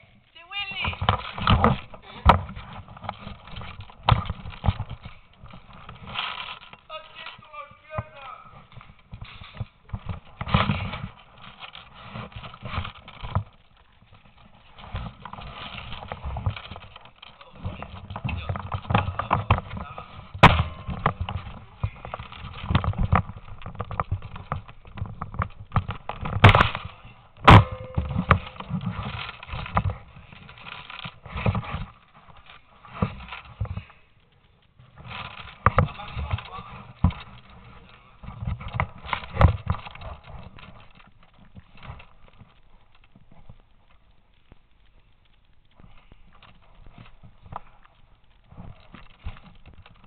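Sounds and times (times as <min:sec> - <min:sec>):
sharp cracks: 0:00.0 - 0:50.0
footsteps crunching over rubble: 0:00.1 - 0:50.0.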